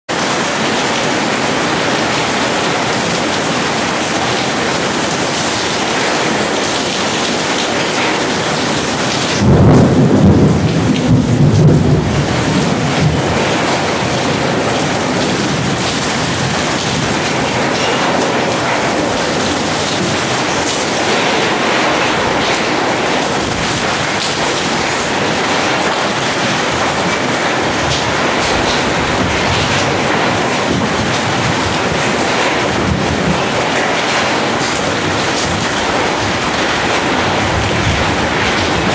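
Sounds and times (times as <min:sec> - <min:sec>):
heavy rain on metal roof: 0:00.0 - 0:38.9
thunder rumble: 0:00.2 - 0:38.9.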